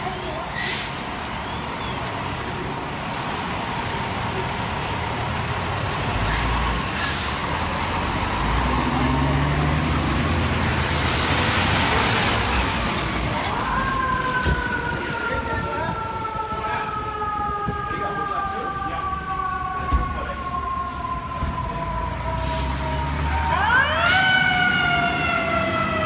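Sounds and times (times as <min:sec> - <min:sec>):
fire engine diesel engine: 0:00.0 - 0:26.0.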